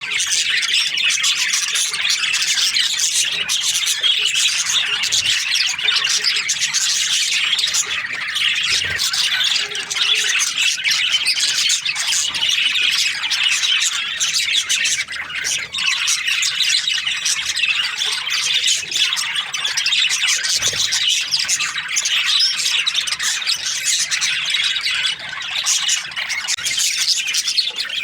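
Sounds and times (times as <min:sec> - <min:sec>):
budgerigars chirping and squawking: 0:00.0 - 0:28.0.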